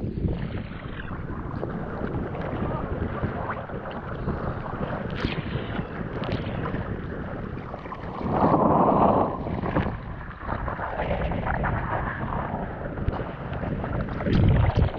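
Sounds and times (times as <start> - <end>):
sea water splashing: 0.0 - 14.9
wind buffeting microphone: 0.0 - 14.9.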